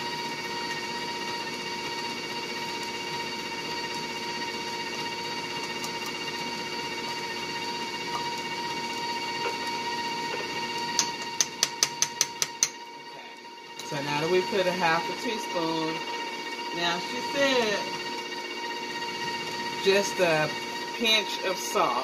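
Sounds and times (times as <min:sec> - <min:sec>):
electric mixer motor whining: 0:00.0 - 0:22.0.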